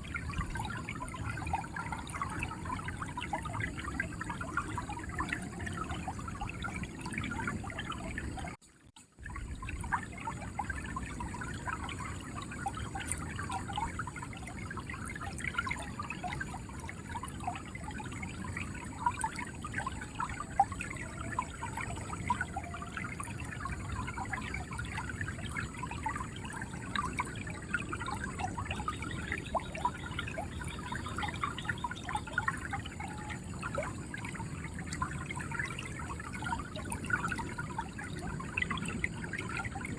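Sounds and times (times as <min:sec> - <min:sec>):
river water flowing and gurgling: 0:00.0 - 0:39.9
small water splashes: 0:00.0 - 0:39.9.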